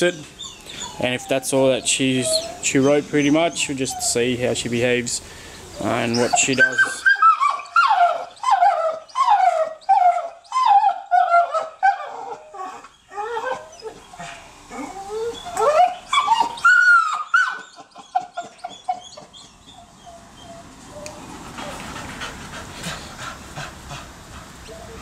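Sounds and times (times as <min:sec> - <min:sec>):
dog whining and yelping: 0:00.2 - 0:04.3, 0:05.8 - 0:23.3.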